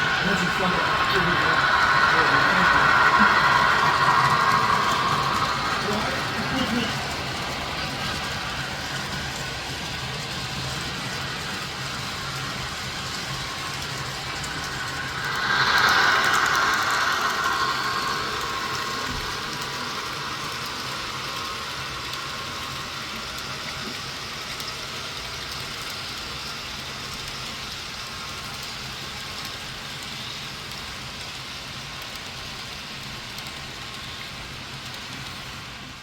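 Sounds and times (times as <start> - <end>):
model train running on track: 0.0 - 36.0.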